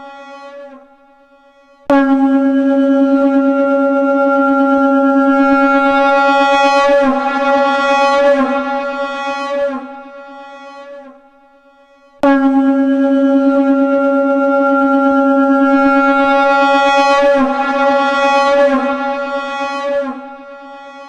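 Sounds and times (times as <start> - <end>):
conch shell blown: 1.9 - 11.6, 12.2 - 21.0.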